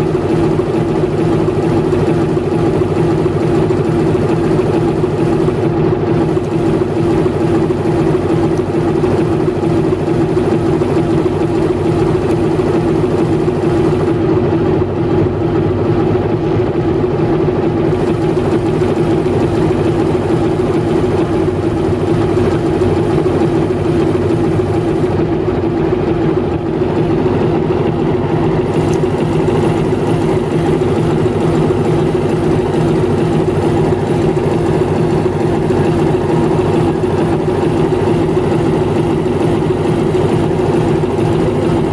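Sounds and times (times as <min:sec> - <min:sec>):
locomotive diesel engine idling: 0:00.0 - 0:41.9.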